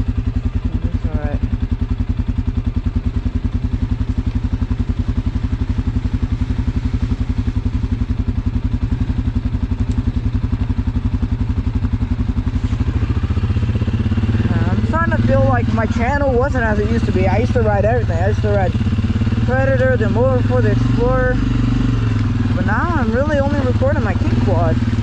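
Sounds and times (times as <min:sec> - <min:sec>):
quad bike engine puttering: 0:00.0 - 0:25.0.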